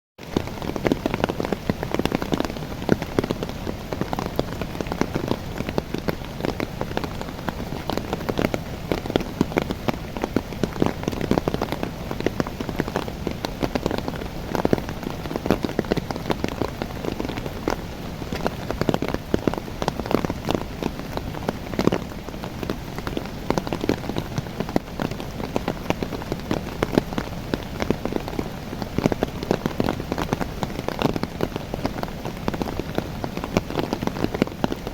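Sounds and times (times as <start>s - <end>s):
rain pattering on leaves: 0.2s - 34.9s.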